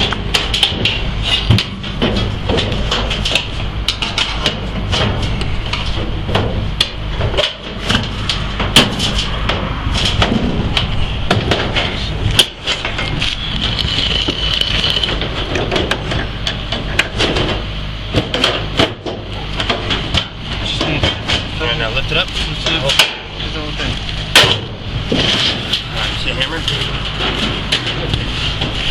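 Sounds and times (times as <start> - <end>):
knocks and metal clanks: 0.0 - 28.9
low machine hum: 0.0 - 28.9.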